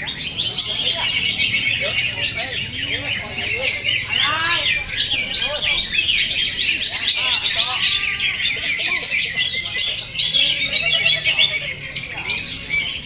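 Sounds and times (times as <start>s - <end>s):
birds singing in chorus: 0.0s - 13.0s.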